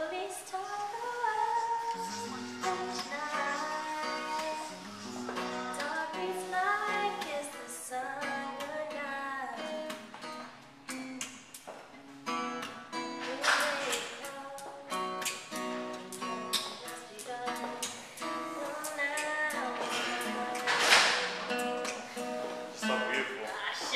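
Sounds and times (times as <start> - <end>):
girl singing: 0.0 - 11.4, 12.6 - 23.9
acoustic guitar strumming: 1.3 - 23.9.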